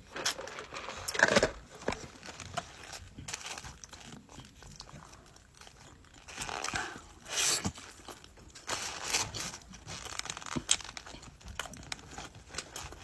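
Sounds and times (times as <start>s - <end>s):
paper wrapper crinkling and tearing: 0.0s - 13.0s.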